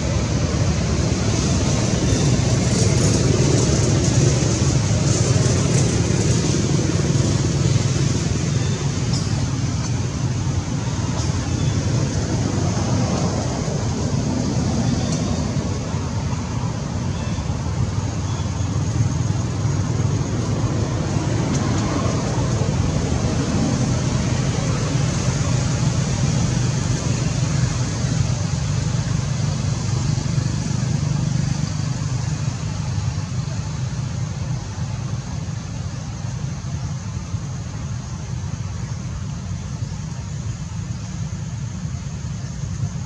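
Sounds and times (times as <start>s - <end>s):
low rumbling noise: 0.0s - 43.0s.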